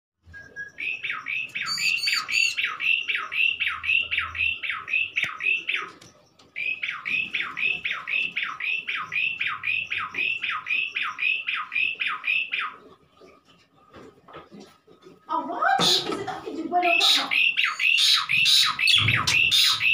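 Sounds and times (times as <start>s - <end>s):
bird calling down-slurred notes: 0.2s - 13.3s, 16.8s - 19.9s.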